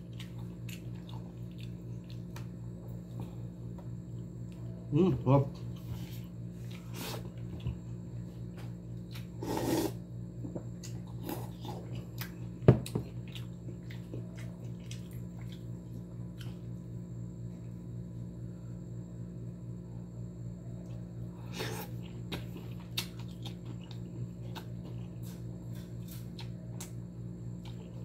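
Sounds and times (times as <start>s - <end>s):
person eating by hand: 0.0s - 18.7s, 20.5s - 28.0s
steady low hum: 0.0s - 28.0s.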